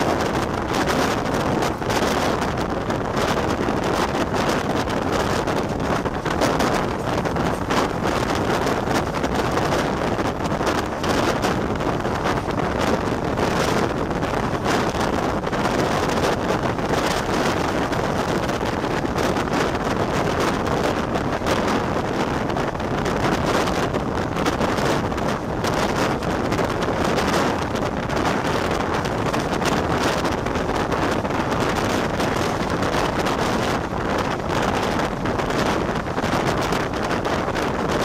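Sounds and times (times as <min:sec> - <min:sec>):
train running on rails: 0:00.0 - 0:38.0
wind on microphone: 0:00.0 - 0:38.0.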